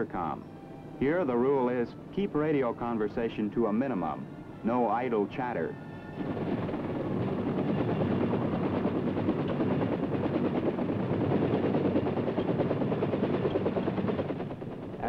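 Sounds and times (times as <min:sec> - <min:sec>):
helicopter rotor chopping: 0:00.0 - 0:15.0
helicopter turbine running: 0:00.0 - 0:15.0.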